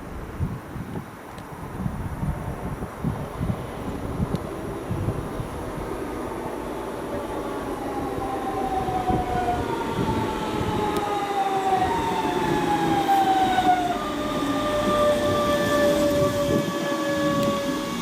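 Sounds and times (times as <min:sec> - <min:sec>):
rail rumble: 0:00.0 - 0:18.0
electric train whining: 0:03.4 - 0:18.0.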